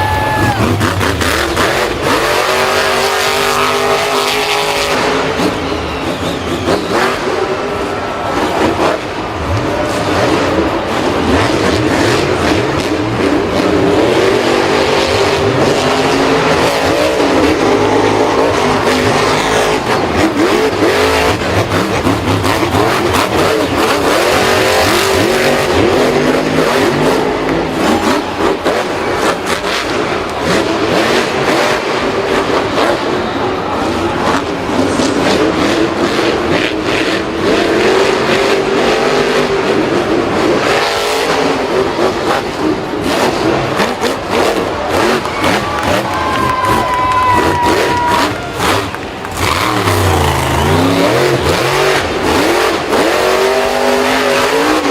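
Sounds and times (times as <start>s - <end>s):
vehicle engines revving: 0.0s - 54.9s.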